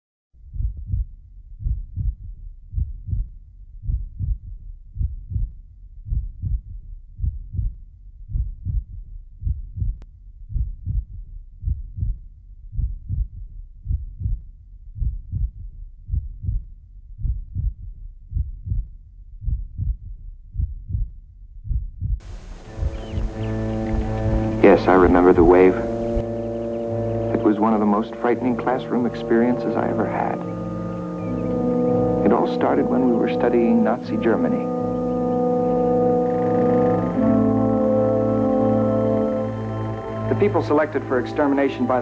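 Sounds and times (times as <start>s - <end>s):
heartbeat thumps: 0.4s - 38.6s.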